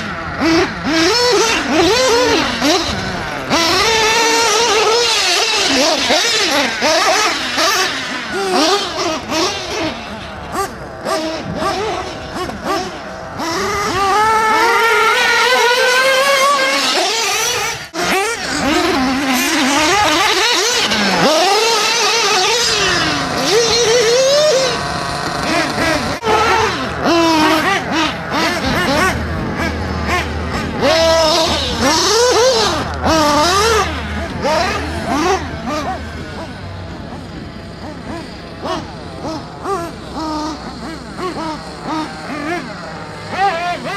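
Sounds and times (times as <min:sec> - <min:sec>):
remote control car motors whining: 0:00.0 - 0:43.9.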